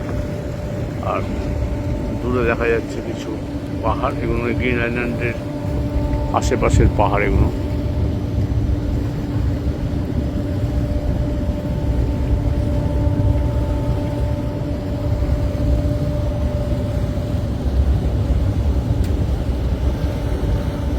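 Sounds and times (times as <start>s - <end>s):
ship engines rumbling: 0.0s - 20.9s.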